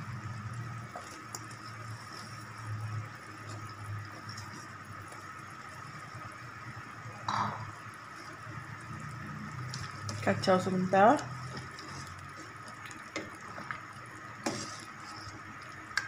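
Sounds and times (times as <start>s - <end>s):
broth bubbling in a pot: 0.0s - 16.0s.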